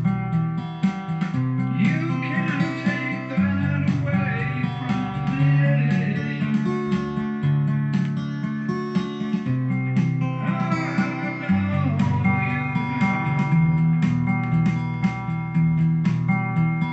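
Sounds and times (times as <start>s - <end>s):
strummed guitar: 0.0s - 16.9s.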